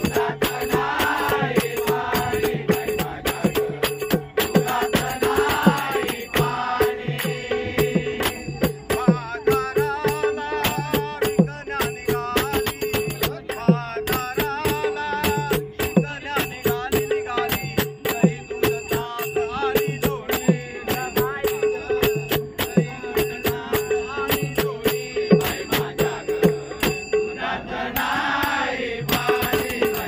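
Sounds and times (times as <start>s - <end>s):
old man singing devotional song: 0.0s - 30.0s.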